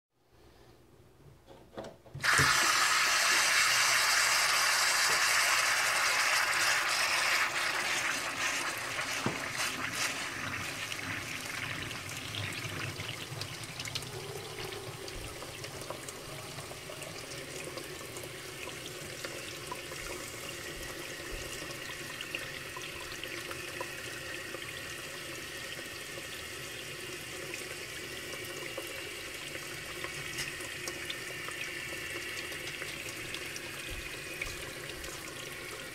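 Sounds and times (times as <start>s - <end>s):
tap water running into bucket: 2.2s - 35.9s.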